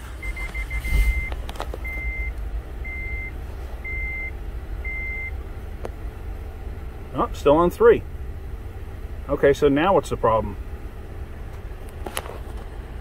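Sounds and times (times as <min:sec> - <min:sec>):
misfiring car engine rumble: 0:00.0 - 0:13.0.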